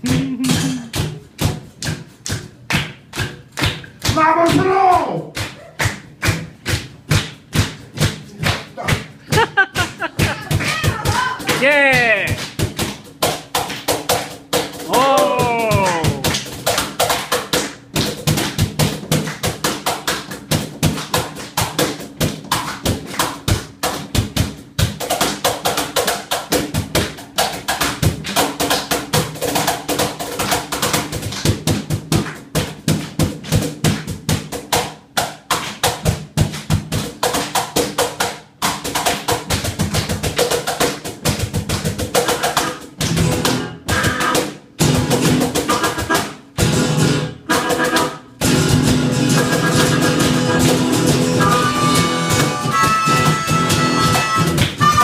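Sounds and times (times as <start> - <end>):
fast drum strikes: 0.0 - 55.0.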